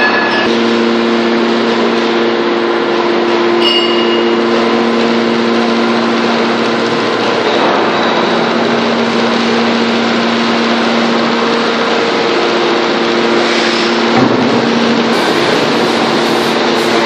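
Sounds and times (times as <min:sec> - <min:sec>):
hydraulic power unit hum: 0:00.0 - 0:17.0.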